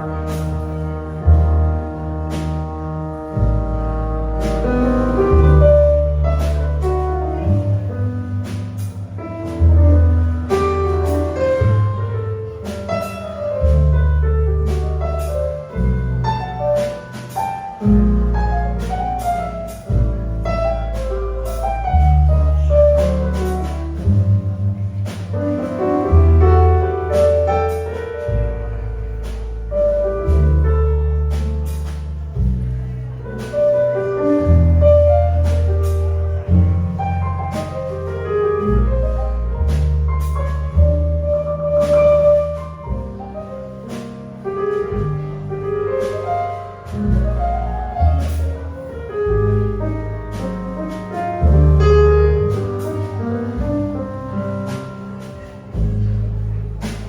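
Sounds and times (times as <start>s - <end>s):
bass notes: 0.0s - 57.0s
jazz combo playing slow ballad: 0.0s - 57.0s
piano: 0.0s - 57.0s.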